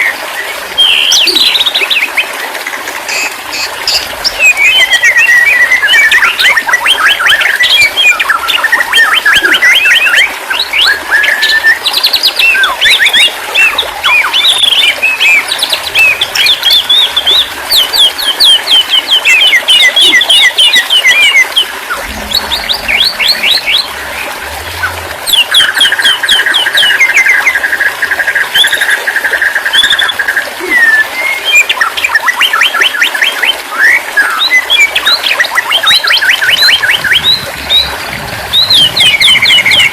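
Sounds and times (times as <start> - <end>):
songbirds singing: 3.1 - 39.9.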